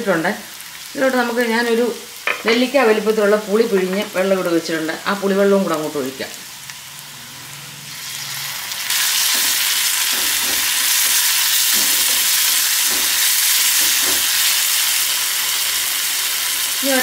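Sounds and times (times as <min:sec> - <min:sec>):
food sizzling in pot: 0:00.0 - 0:17.0.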